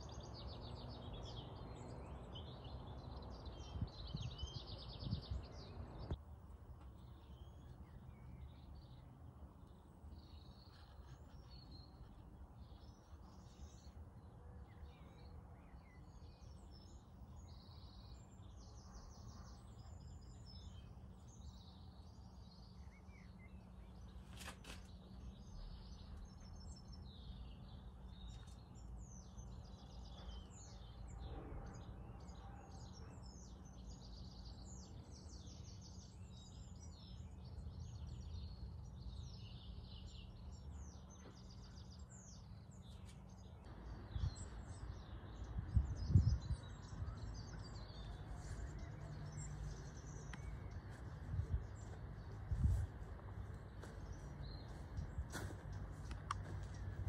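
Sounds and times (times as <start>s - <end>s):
small birds chirping: 0.0s - 6.2s, 6.8s - 57.0s
low steady hum: 0.0s - 57.0s.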